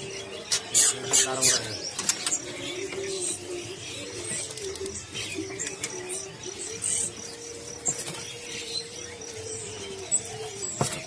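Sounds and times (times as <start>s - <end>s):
caged birds calling: 0.0s - 11.0s.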